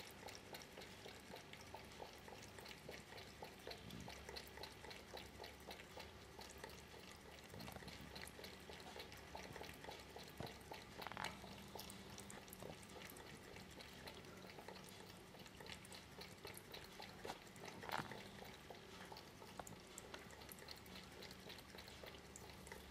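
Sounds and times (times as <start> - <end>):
cat lapping water: 0.0 - 22.9.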